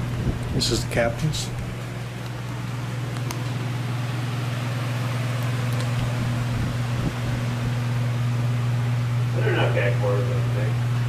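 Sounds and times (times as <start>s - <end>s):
ventilation fan humming: 0.0s - 11.0s.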